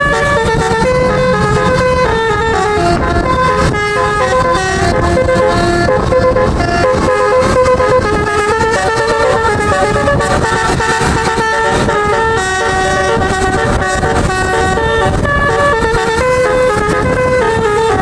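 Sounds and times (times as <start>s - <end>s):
low rumble: 0.0s - 15.8s
multi-tone bus horn tune: 0.0s - 18.0s.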